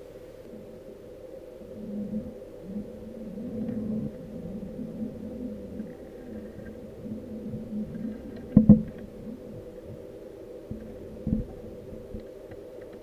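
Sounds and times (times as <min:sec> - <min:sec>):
underwater rumble and hum: 0:00.0 - 0:13.0.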